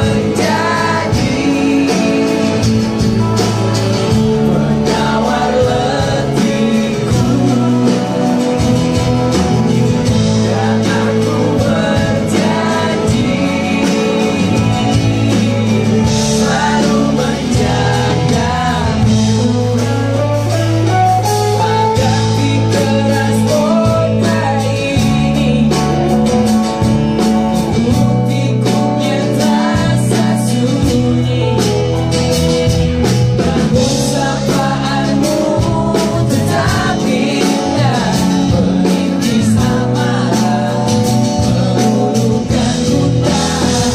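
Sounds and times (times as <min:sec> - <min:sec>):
electric bass: 0:00.0 - 0:43.9
keyboard: 0:00.0 - 0:43.9
man singing: 0:00.0 - 0:43.9
strummed acoustic guitar: 0:00.0 - 0:43.9.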